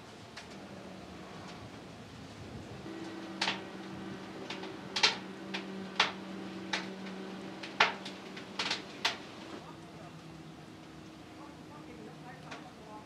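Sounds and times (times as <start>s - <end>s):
steady low hum: 0.6s - 13.0s.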